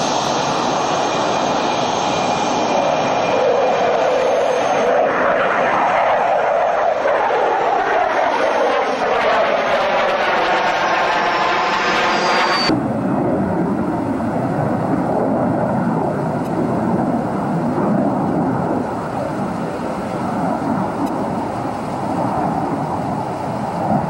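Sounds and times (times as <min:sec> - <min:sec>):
deep jet roar: 0:00.0 - 0:24.0
jet engine whine: 0:00.0 - 0:24.0.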